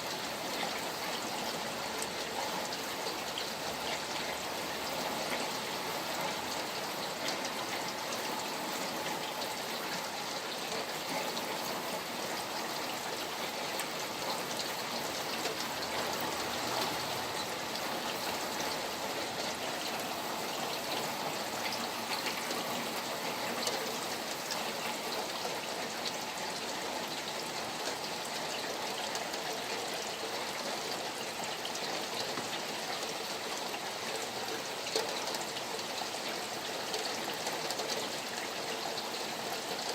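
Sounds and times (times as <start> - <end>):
flowing water: 0.0 - 39.9
rain patter: 0.0 - 39.9.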